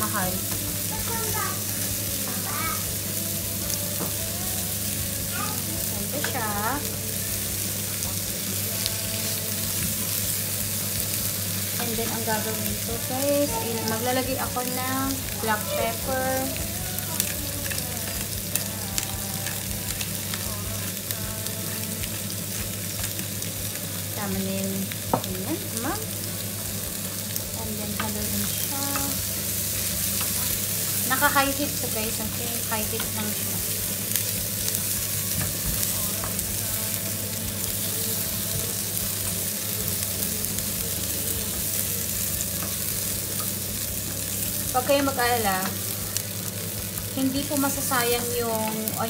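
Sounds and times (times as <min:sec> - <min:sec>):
food frying in a pan: 0:00.0 - 0:49.0.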